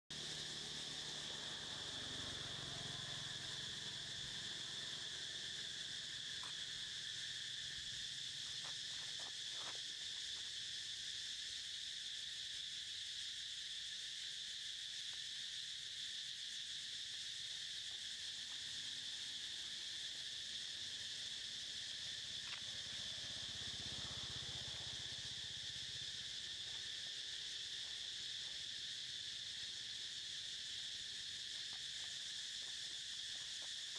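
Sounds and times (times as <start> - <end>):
high-pitched insect chorus: 0.0 - 33.9.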